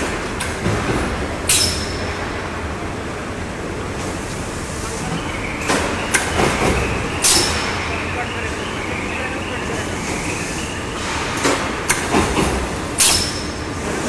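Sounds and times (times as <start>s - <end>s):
low machinery rumble: 0.0s - 14.0s.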